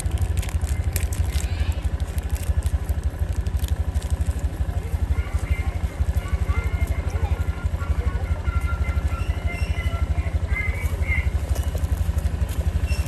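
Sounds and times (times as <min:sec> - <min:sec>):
engine throbbing: 0:00.0 - 0:13.0.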